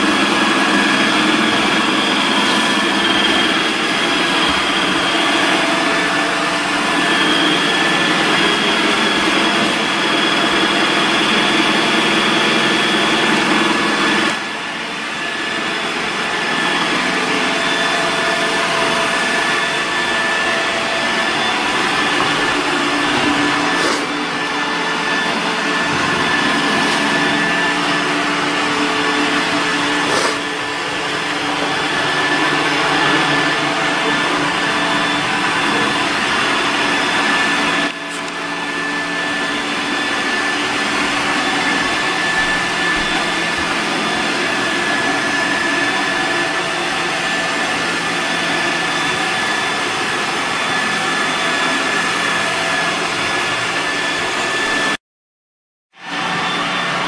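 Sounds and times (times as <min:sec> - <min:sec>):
robot vacuum whirring: 0:00.0 - 0:55.0.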